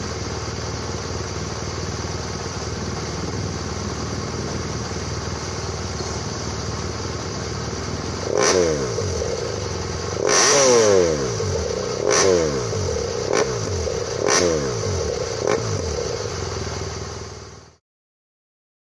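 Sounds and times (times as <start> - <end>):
motorcycle engine revving: 0.0 - 17.8.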